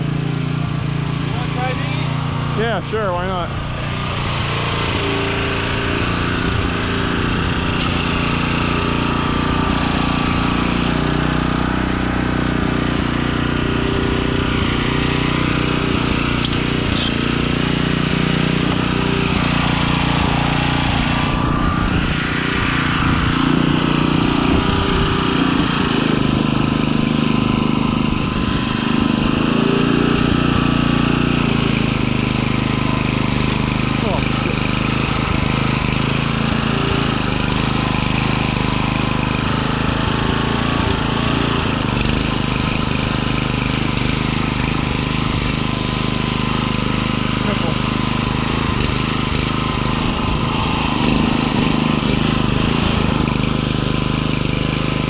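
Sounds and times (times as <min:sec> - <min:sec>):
garden tiller engine running: 0:00.0 - 0:55.0.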